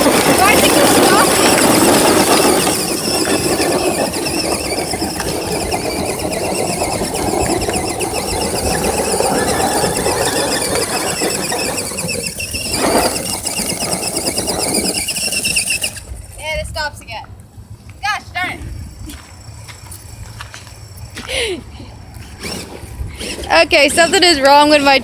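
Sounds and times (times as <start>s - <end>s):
tyres scrabbling on rocky dirt: 0.0s - 21.4s, 22.0s - 25.0s
rc truck motor and gear whine: 0.0s - 25.0s.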